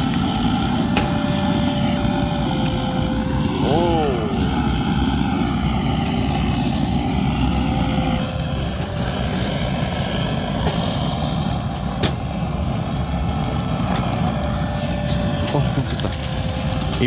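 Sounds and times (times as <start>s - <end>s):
blowtorch flame hissing: 0.0s - 17.0s.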